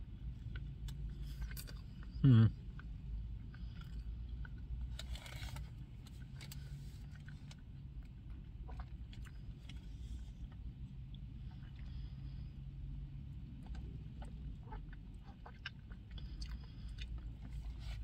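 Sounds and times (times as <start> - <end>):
person chewing food: 0.2 - 18.0.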